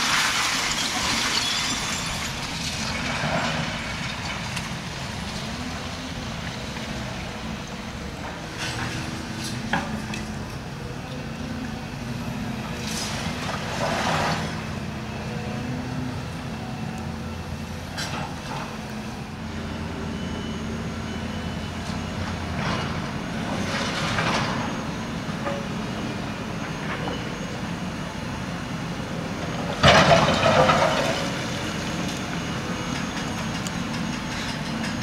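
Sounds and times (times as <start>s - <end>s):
diesel machinery engine running: 0.4s - 35.0s.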